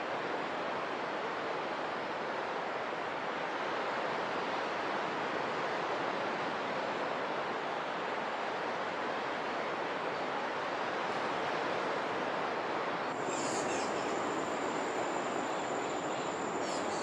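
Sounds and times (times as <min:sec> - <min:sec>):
rushing outdoor ambience: 0:00.0 - 0:17.0.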